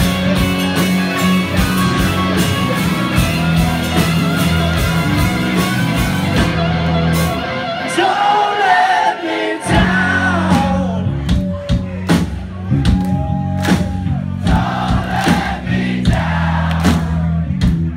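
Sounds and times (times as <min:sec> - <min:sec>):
live rock band playing: 0:00.0 - 0:17.9.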